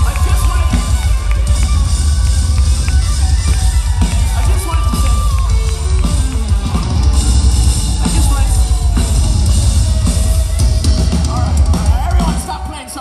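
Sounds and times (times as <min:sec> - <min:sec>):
drum kit: 0:00.0 - 0:13.0
live rock band playing: 0:00.0 - 0:13.0.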